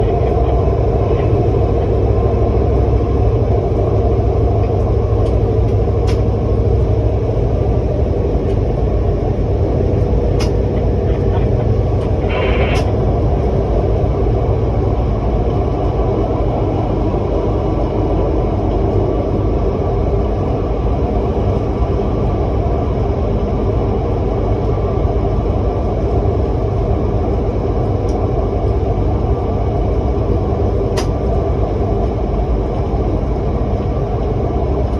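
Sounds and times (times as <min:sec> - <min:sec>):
electric train rumbling: 0:00.0 - 0:34.9.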